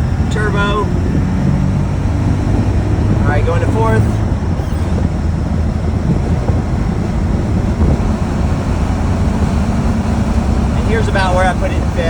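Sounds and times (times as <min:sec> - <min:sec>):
car engine pulling steadily: 0:00.0 - 0:12.0
wind and road noise: 0:00.0 - 0:12.0.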